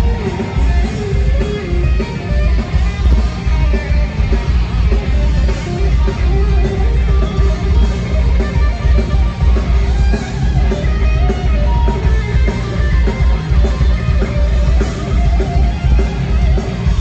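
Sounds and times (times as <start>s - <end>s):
heavy metal band playing live: 0.0s - 17.0s.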